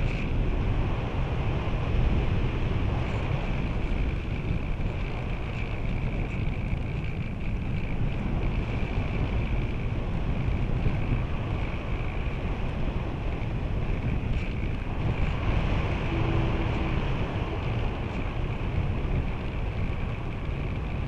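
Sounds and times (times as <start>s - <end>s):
faint high whine: 0.0s - 21.0s
wind buffeting microphone: 0.0s - 21.0s.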